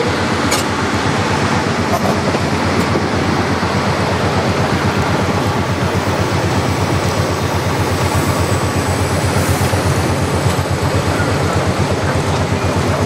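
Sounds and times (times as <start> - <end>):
diesel locomotive engine throbbing: 0.0 - 13.0.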